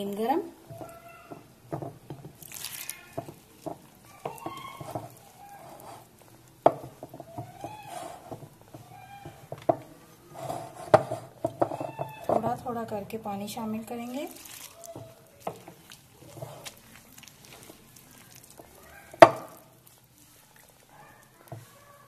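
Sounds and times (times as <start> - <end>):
hand mixing dough: 0.0 - 22.0.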